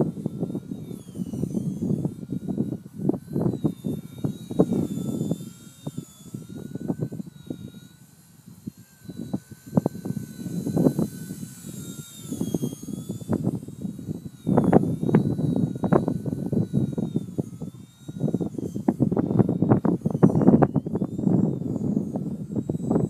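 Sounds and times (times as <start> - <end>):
rc helicopter motor whine: 0.0 - 23.0
strong wind buffeting microphone: 0.0 - 23.0.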